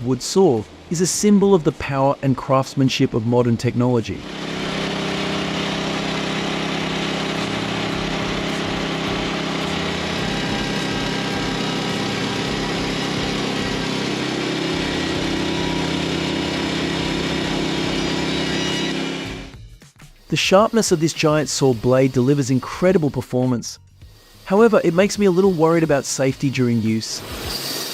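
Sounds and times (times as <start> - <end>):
band sawmill engine running: 0.0 - 19.6, 20.2 - 27.9.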